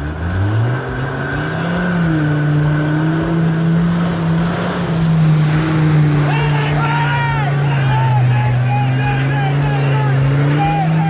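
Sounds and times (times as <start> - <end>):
engine revving hard: 0.0 - 11.0
water and mud splashing: 0.0 - 11.0.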